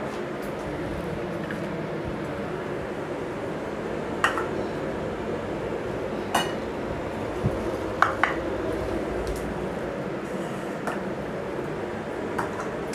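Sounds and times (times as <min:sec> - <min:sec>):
low background hum: 0:00.0 - 0:12.9.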